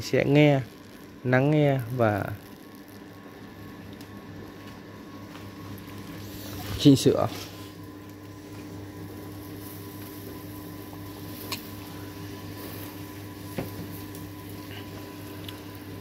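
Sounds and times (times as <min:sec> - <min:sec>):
spit motor humming: 0:00.0 - 0:16.0.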